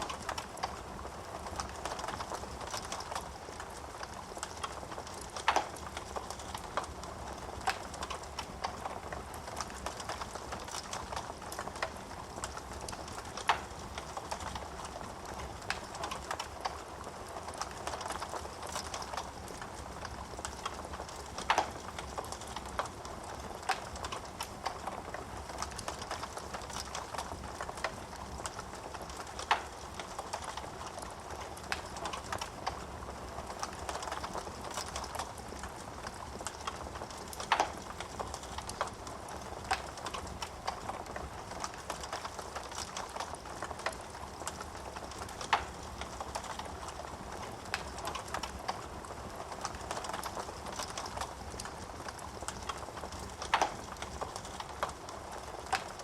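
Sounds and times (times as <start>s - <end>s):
burning wood crackling and popping: 0.0s - 56.0s.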